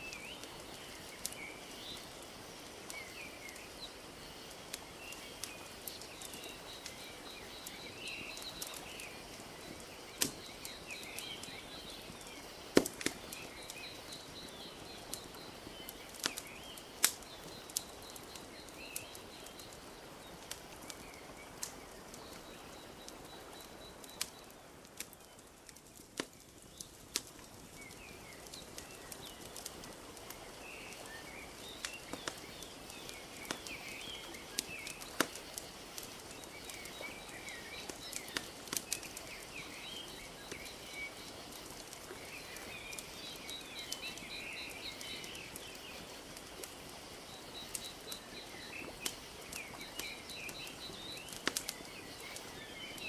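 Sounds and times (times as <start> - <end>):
small birds chirping: 0.0 - 53.0
wood fire crackling: 0.0 - 53.0.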